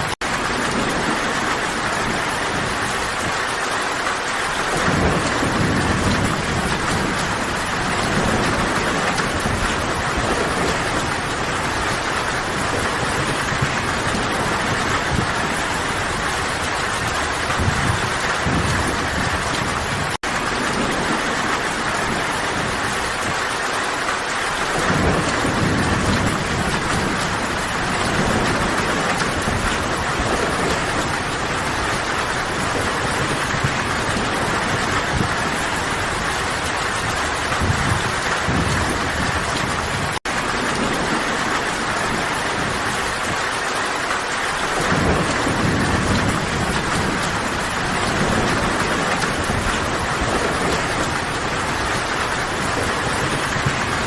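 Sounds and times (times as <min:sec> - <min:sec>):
distant thunder rumbling: 0:00.0 - 0:54.0
heavy rain falling: 0:00.0 - 0:54.0.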